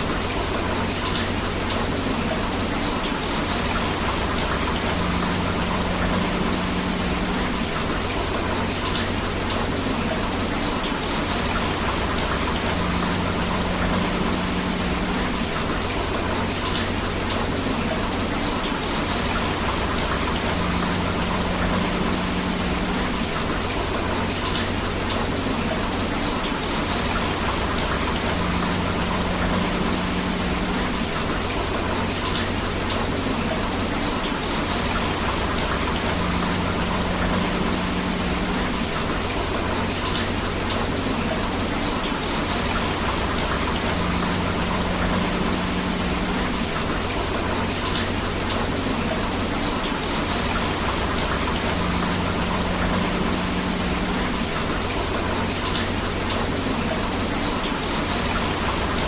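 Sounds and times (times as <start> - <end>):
light water splashes: 0.0 - 59.0
rushing river water: 0.0 - 59.0
steady rain: 0.0 - 59.0.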